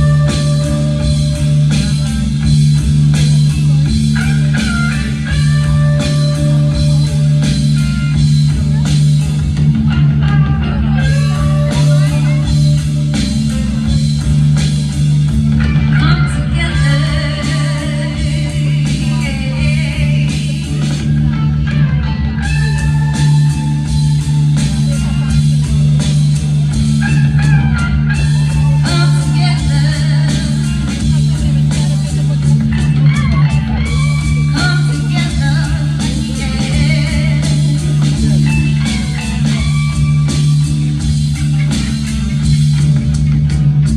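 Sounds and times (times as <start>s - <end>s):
guitar: 0.0s - 43.9s
held bass line: 0.0s - 43.9s
live band music: 0.0s - 43.9s.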